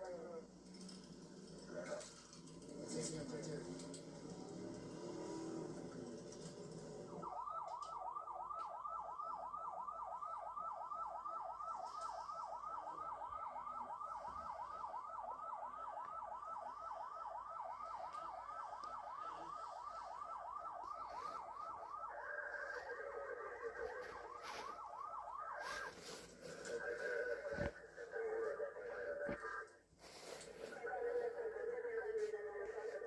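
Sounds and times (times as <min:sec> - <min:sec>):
police siren yelp: 0:00.0 - 0:29.8, 0:30.4 - 0:33.0
steady siren tone: 0:00.0 - 0:33.0.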